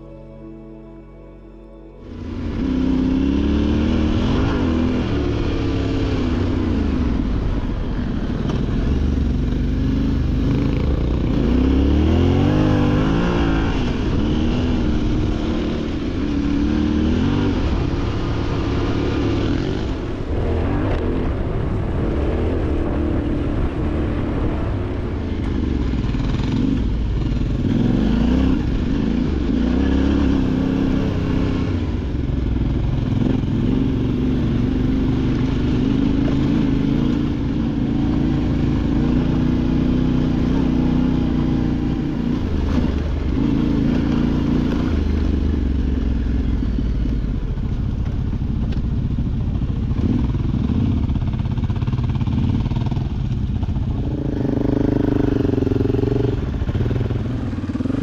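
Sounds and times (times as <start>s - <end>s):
motorcycle engine revving: 2.0s - 58.0s.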